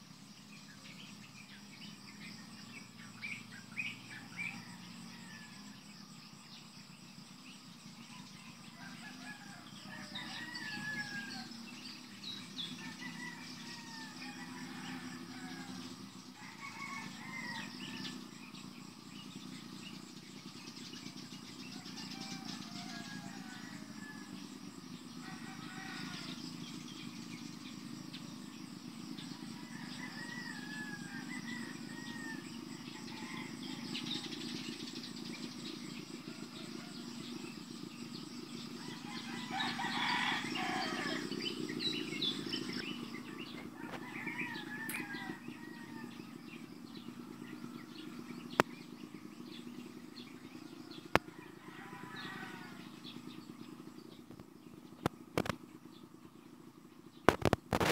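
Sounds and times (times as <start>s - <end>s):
small birds chirping: 0.0s - 57.9s
steady low hum: 0.0s - 57.9s
rooster crowing: 3.2s - 5.9s, 8.1s - 20.9s, 21.6s - 48.6s, 49.3s - 54.1s.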